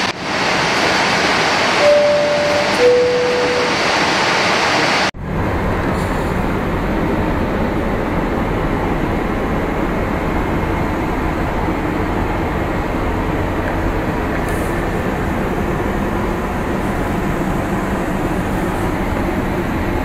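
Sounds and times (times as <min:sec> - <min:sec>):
airliner cabin noise: 0:00.0 - 0:20.0.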